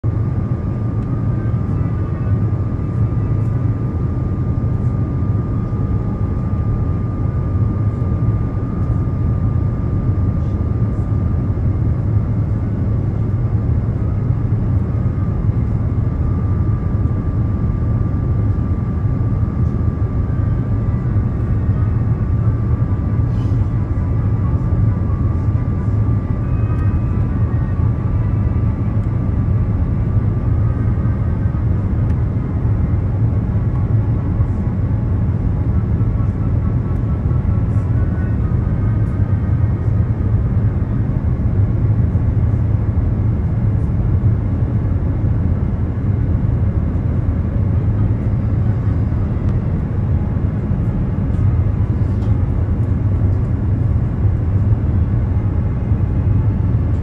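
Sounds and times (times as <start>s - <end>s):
airliner engines and airflow rumble: 0.0s - 57.0s.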